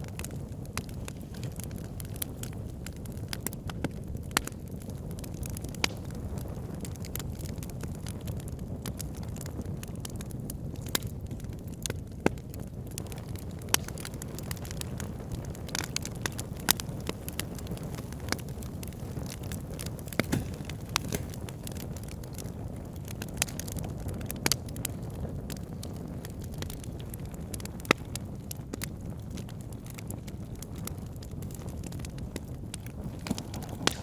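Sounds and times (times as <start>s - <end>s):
wood fire burning: 0.0s - 34.0s.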